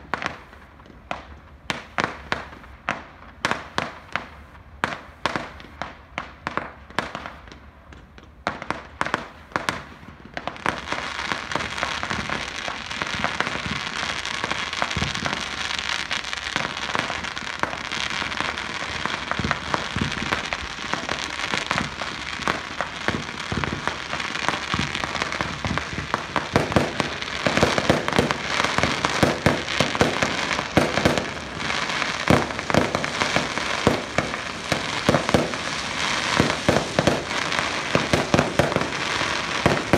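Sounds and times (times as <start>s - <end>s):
fireworks bangs: 0.0s - 39.9s
fireworks crackling and popping: 0.0s - 39.9s.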